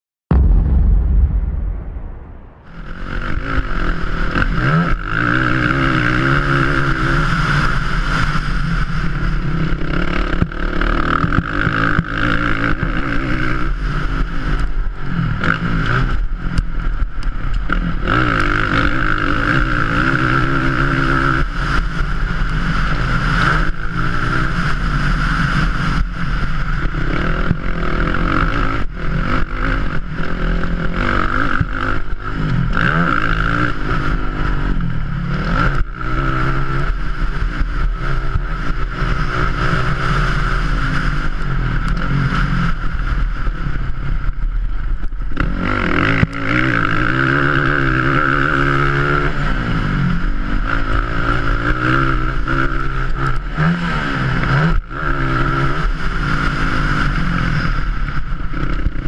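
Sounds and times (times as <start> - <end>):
racing quad engine revving: 2.7 - 44.4, 45.0 - 59.0.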